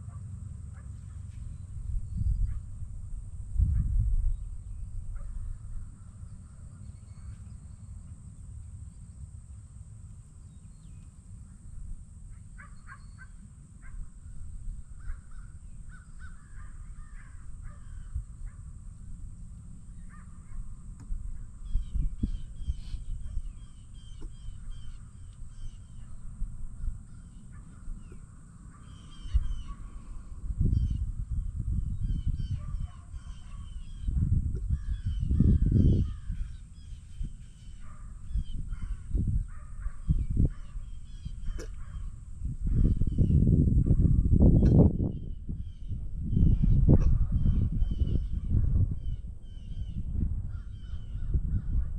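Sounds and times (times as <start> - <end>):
birds calling: 4.3 - 9.3, 12.3 - 43.5, 44.5 - 51.8.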